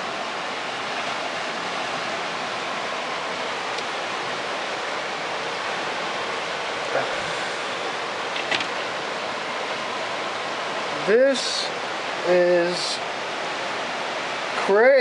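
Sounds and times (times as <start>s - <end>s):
flooded brook rushing: 0.0s - 14.8s.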